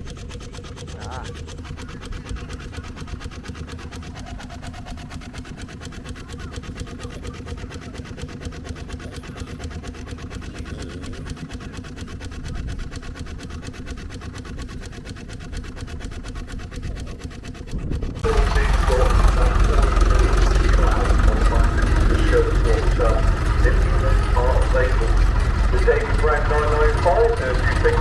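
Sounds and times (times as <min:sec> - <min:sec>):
miniature steam engine running: 0:00.0 - 0:28.0.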